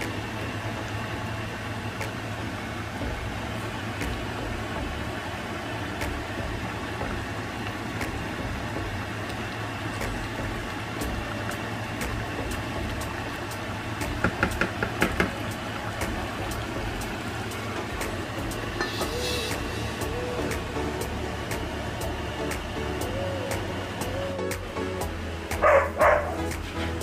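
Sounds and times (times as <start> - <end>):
low hum: 0.0 - 14.4, 15.4 - 27.0
food simmering and bubbling: 0.0 - 27.0.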